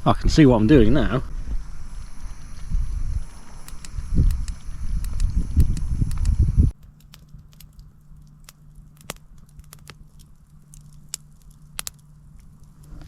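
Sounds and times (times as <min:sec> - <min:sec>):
campfire crackling: 0:00.0 - 0:13.0
low rumbling noise: 0:00.0 - 0:13.0.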